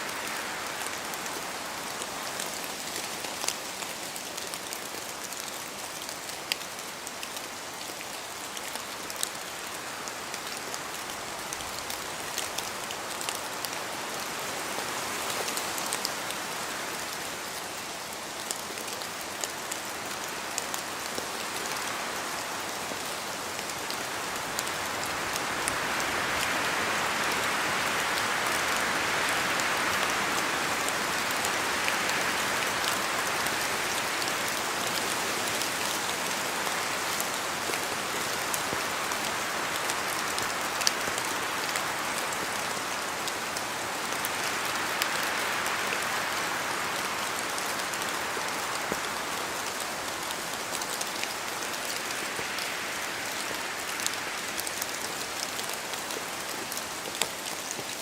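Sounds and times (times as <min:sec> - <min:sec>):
steady rain: 0:00.0 - 0:58.0
wind: 0:00.0 - 0:58.0.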